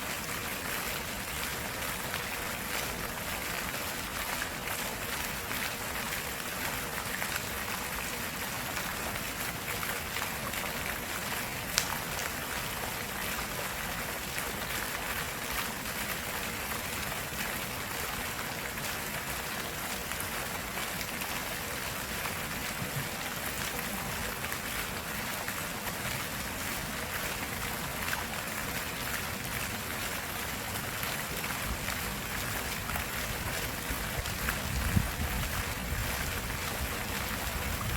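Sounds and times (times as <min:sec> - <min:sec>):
stream flowing over rocks: 0:00.0 - 0:37.9.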